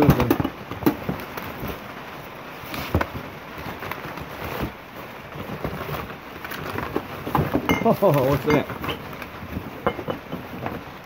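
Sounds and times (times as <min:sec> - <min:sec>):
items knocking in a box: 0:00.0 - 0:01.9, 0:02.7 - 0:11.0
rustle of paper and cardboard: 0:00.0 - 0:11.0.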